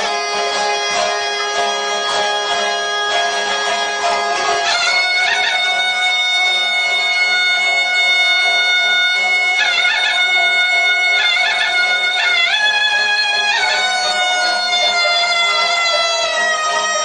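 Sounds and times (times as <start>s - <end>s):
reedy wind instrument melody: 0.0s - 17.0s.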